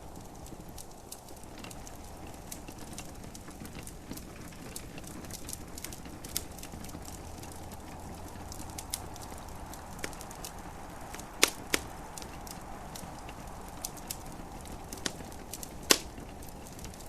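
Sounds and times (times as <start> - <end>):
gentle rain hiss: 0.0 - 17.0
wood fire crackling and popping: 0.0 - 17.0.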